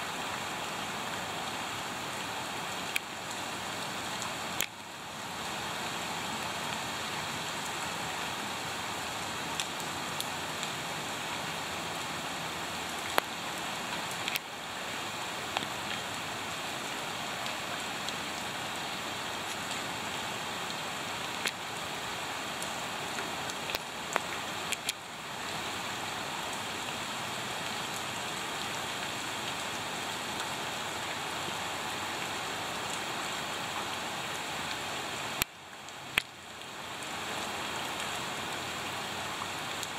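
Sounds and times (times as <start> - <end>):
rain falling into puddle: 0.1 - 39.9.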